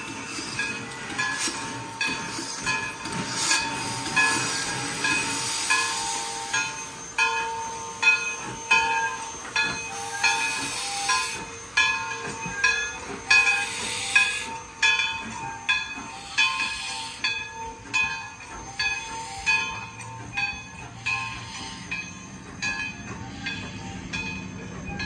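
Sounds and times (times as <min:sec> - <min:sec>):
steam hissing: 0:00.0 - 0:25.0
steam locomotive exhaust beats: 0:00.0 - 0:25.0.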